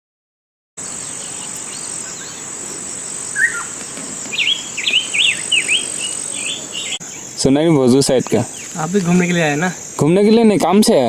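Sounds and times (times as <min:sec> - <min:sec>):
bird singing sweeping notes: 0:00.8 - 0:10.0
birds calling: 0:00.8 - 0:10.7
high-pitched insect drone: 0:00.8 - 0:11.0.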